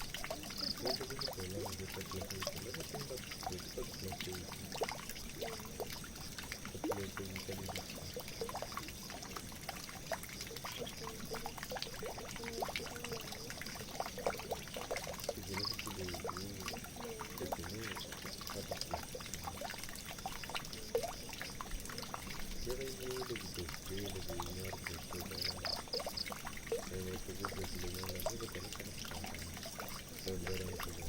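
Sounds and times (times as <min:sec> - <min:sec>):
water pouring into a drain: 0:00.0 - 0:31.0
water splashes and drips: 0:00.0 - 0:31.0.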